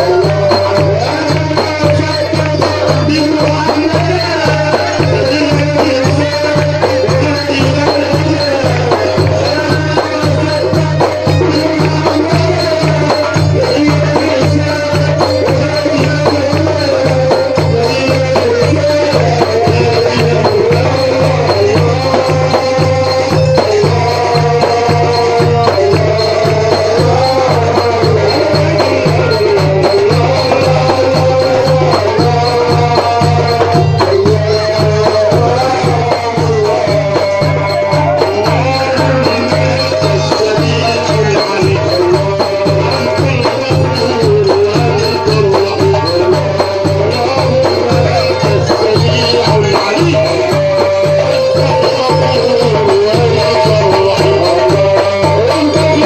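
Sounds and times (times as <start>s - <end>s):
low drum beat: 0.0s - 56.0s.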